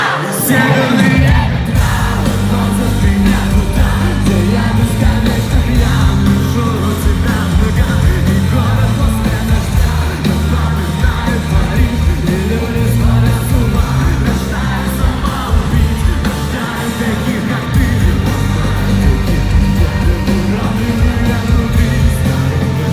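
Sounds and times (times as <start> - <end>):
live rock band playing: 0.0 - 22.9
person singing: 0.0 - 22.9.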